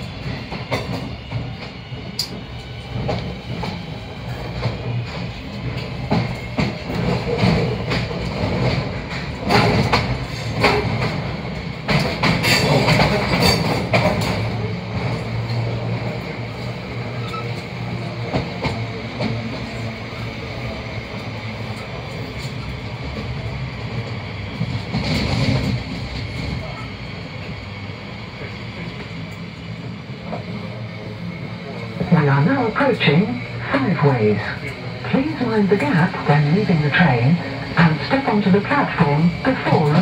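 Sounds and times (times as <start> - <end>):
train wheels clattering over track: 0.0 - 40.0.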